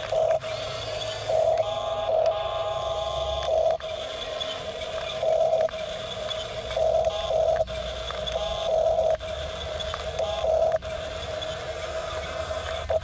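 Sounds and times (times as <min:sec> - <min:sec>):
toy electric motors whining: 0:00.0 - 0:13.0.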